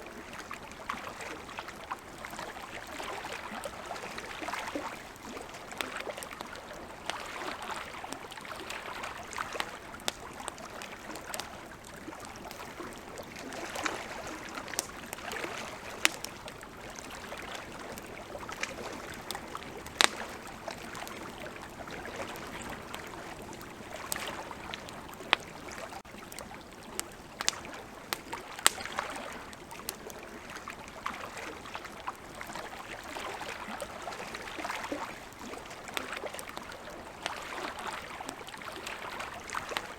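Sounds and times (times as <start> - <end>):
river water flowing: 0.0 - 39.9
campfire crackling and popping: 0.1 - 39.9.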